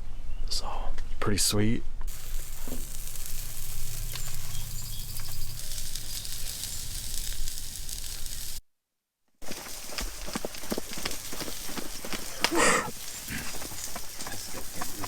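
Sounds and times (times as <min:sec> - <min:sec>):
food sizzling on a griddle: 0:02.1 - 0:08.6, 0:09.4 - 0:15.0.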